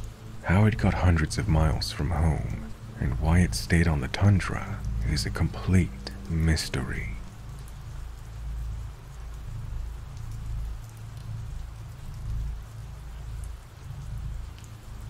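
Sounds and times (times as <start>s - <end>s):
low rumble: 0.0s - 15.0s
steady rain falling: 0.0s - 15.0s.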